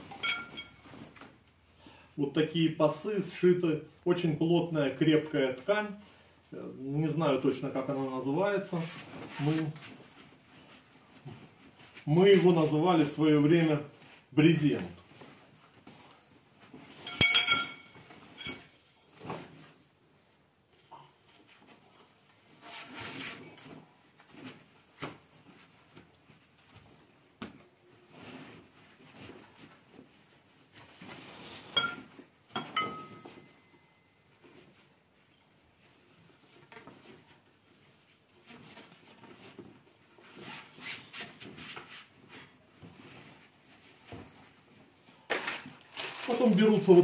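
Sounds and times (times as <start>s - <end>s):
thick fabric rustling: 0.0s - 1.9s, 4.8s - 20.5s, 21.6s - 47.0s.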